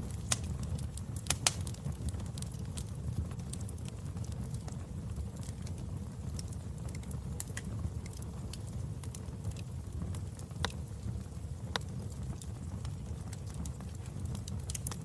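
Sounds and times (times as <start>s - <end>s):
fire crackling: 0.0s - 15.0s
loud fire pops: 0.0s - 15.0s.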